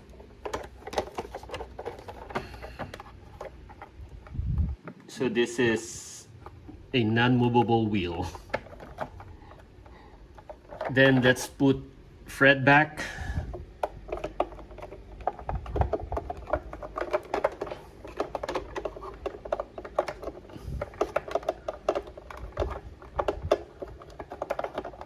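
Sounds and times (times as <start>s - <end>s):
plastic toy parts clicking: 0.0s - 5.0s, 6.4s - 11.8s, 13.4s - 25.0s.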